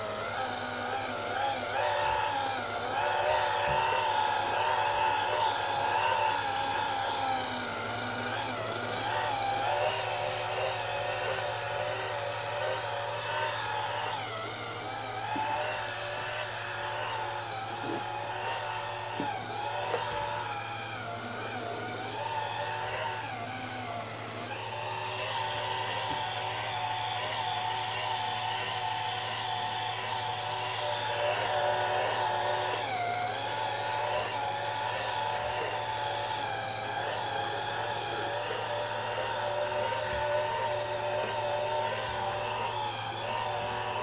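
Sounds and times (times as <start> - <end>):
vacuum cleaner whine: 0.0 - 44.0.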